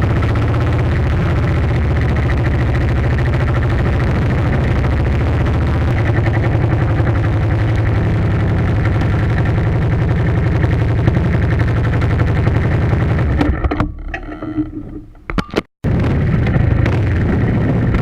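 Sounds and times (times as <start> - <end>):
engine running: 0.0 - 15.0, 15.9 - 18.0.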